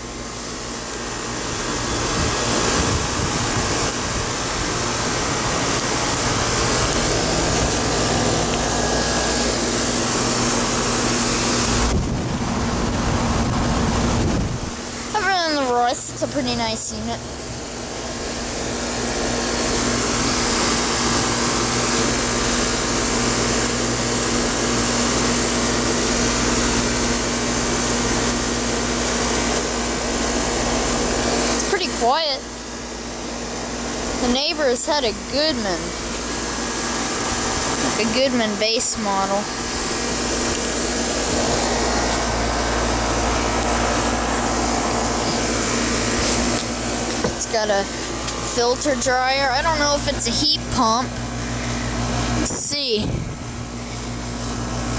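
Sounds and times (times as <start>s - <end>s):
compressor electrical hum: 0.0s - 54.9s
condenser fan air rush: 0.0s - 54.9s.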